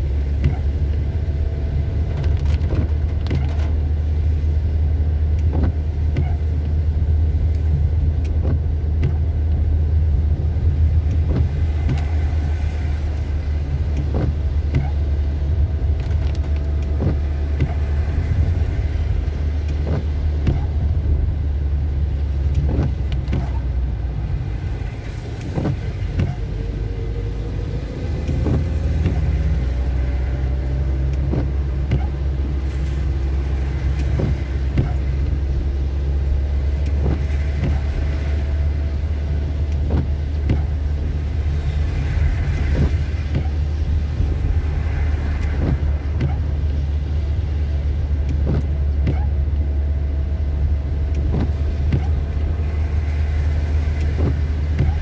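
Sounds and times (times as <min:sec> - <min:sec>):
car engine rumble: 0:00.0 - 0:55.0
rain tapping on windscreen: 0:00.0 - 0:55.0
tyres on wet road: 0:00.0 - 0:55.0.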